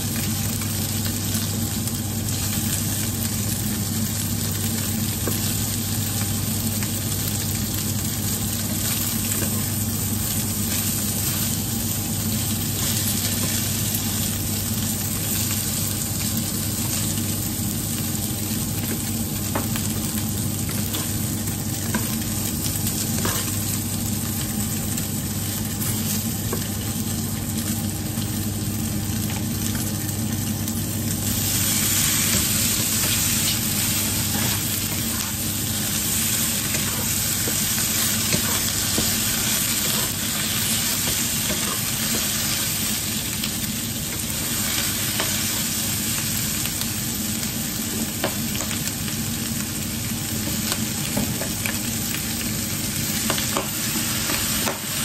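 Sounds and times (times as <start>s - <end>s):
steady low hum: 0.0s - 55.0s
tofu sizzling in oil: 0.0s - 55.0s.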